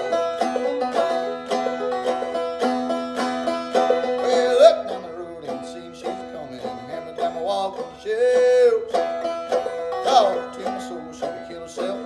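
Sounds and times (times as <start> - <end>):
banjo playing blues: 0.0 - 12.0.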